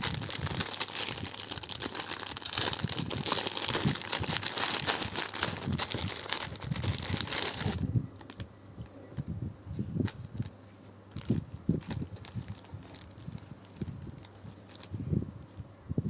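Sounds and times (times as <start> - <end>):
fabric rustling: 0.0 - 8.4, 9.7 - 15.6
plastic bag crinkling: 0.0 - 8.5, 10.0 - 10.5, 11.1 - 15.1.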